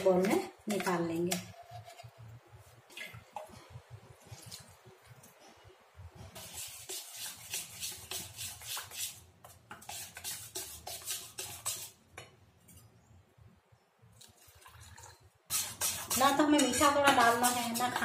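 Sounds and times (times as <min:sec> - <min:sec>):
spoon stirring batter in metal bowl: 0:00.0 - 0:12.9, 0:14.2 - 0:18.0.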